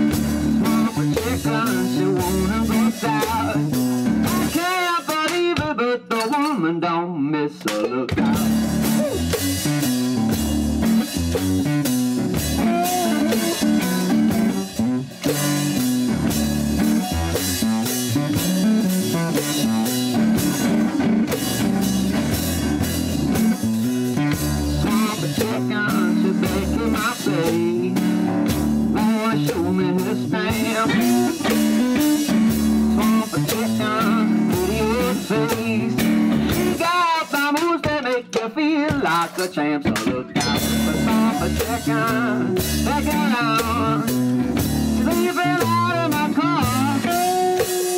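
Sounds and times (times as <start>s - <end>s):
drum and cymbal beat: 0.0s - 6.6s, 7.7s - 47.9s
blues rock guitar: 0.0s - 47.9s.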